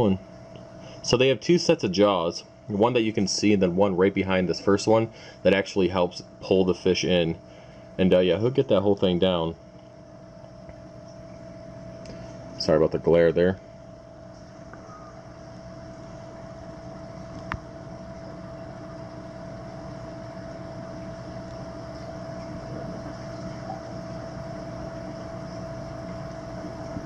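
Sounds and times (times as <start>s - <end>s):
aquarium equipment hum: 0.0s - 27.0s
constant whine: 0.0s - 27.0s.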